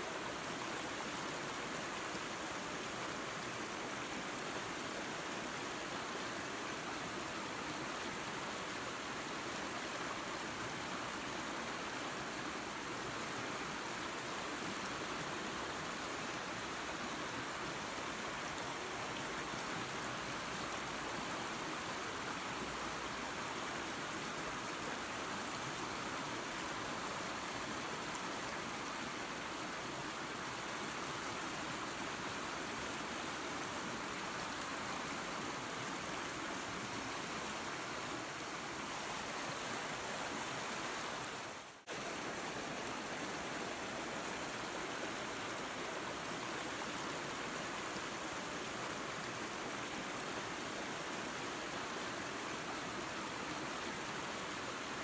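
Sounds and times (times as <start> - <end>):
waterfall and creek rushing: 0.0 - 55.0.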